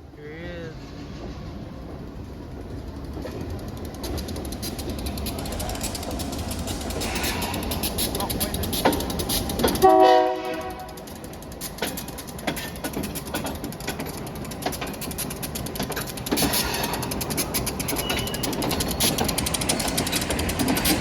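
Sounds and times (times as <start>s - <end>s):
low train rumble: 0.0s - 21.0s
train wheel clicks and knocks: 1.2s - 21.0s.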